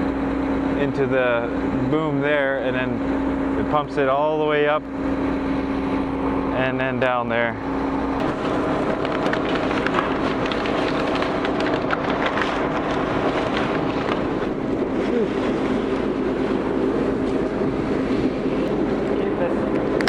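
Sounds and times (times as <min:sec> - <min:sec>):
heavy diesel hum: 0:00.0 - 0:20.0.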